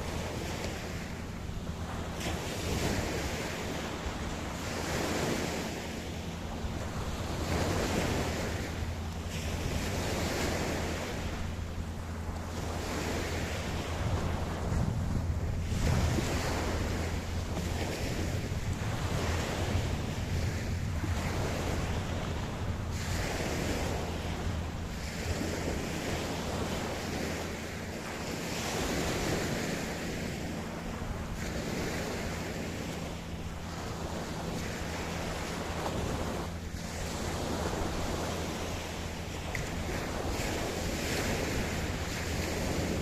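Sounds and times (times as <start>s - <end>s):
ocean surf breaking on beach: 0.0s - 43.0s.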